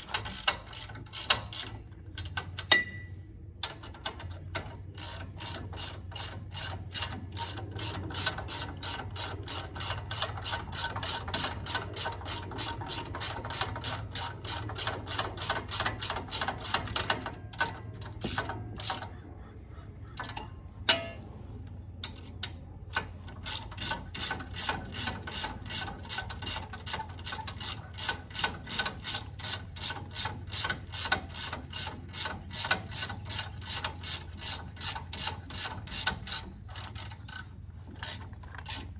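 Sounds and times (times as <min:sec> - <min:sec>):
ratchet wrench clicking: 0:00.0 - 0:03.1, 0:03.7 - 0:19.1, 0:22.0 - 0:38.9.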